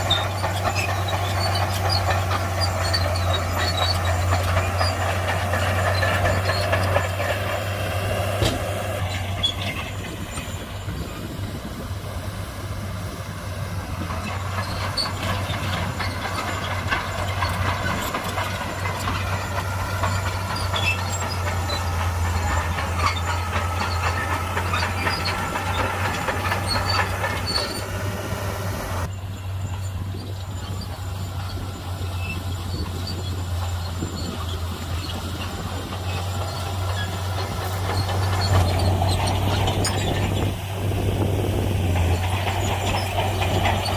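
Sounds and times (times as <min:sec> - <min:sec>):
bulldozer diesel engine droning: 0:00.0 - 0:43.9
steel tracks clattering and squealing: 0:00.0 - 0:43.9.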